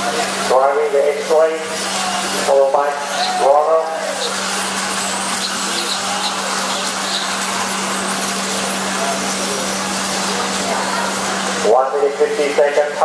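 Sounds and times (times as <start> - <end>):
rc cars whirring: 0.0 - 12.4.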